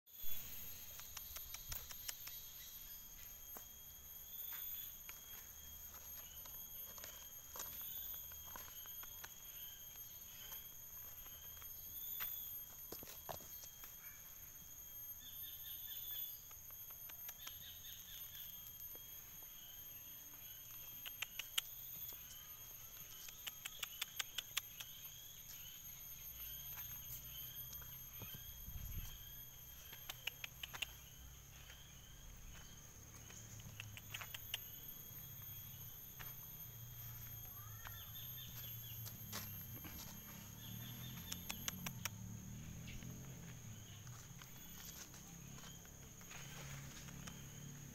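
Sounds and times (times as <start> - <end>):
insects chorus: 0.1 - 47.9.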